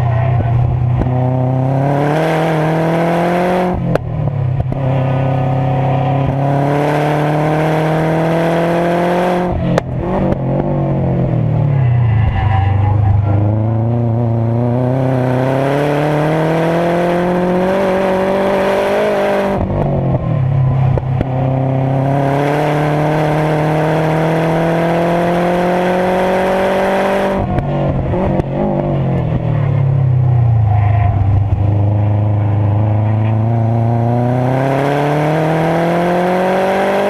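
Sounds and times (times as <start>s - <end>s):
car engine accelerating hard: 0.0s - 37.0s.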